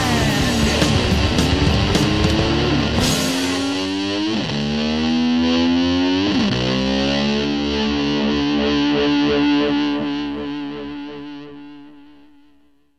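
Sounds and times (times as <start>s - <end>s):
distorted electric slide guitar: 0.0s - 12.9s.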